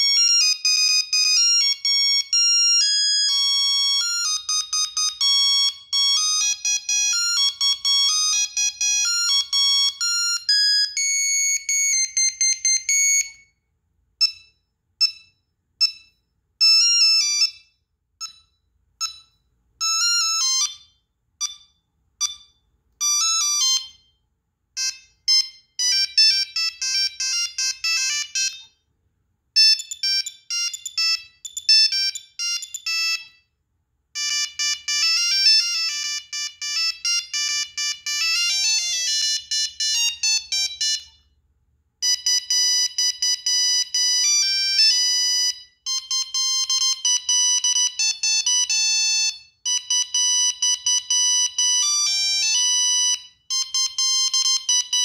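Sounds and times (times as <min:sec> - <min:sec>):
mobile phone ringtones beeping: 0:00.0 - 0:13.5, 0:14.2 - 0:24.2, 0:24.8 - 0:28.8, 0:29.6 - 0:33.5, 0:34.2 - 0:41.3, 0:42.0 - 0:55.0.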